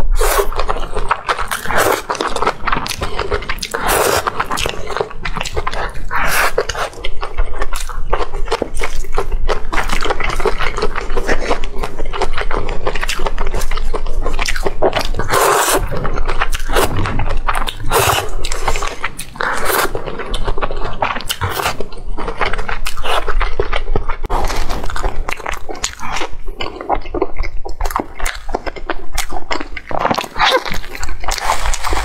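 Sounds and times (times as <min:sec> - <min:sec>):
wet chewing and slurping: 0:00.0 - 0:32.0.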